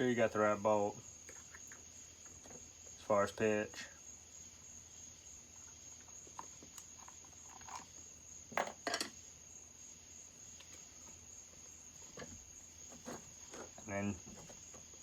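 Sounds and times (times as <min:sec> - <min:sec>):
cricket trill: 0:00.0 - 0:15.0.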